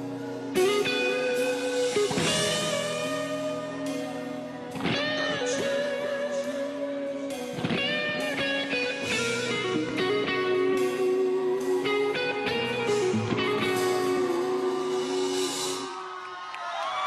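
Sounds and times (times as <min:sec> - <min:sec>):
band music with electric guitar: 0:00.0 - 0:16.3.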